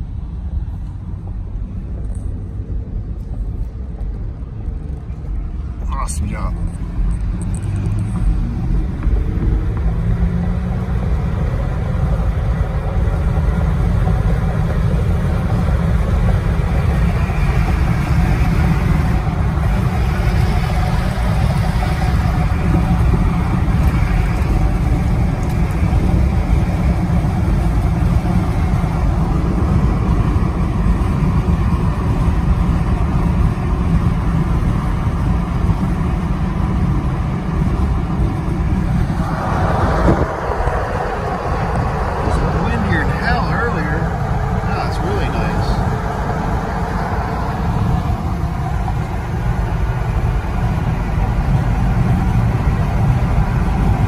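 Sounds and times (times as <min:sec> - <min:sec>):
road and wind noise in car: 0:00.0 - 0:54.0.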